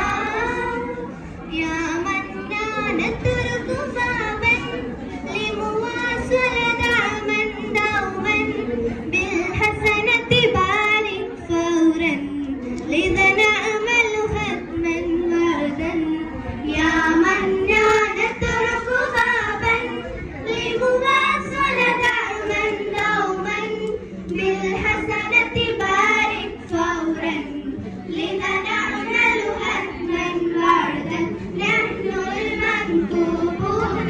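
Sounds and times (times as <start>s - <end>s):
girls singing together: 0.0s - 34.0s.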